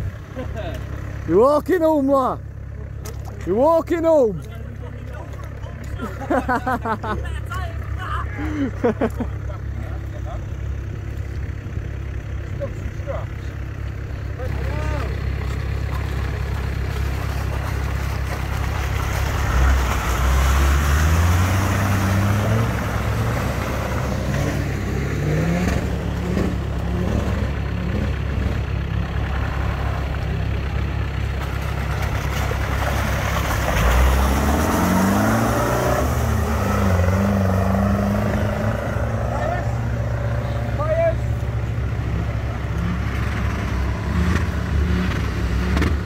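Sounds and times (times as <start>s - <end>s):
off-road engine revving: 0.0s - 46.0s.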